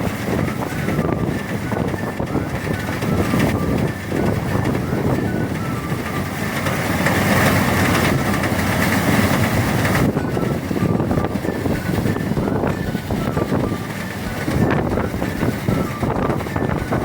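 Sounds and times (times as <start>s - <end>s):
threshing machine rattling: 0.0s - 17.0s.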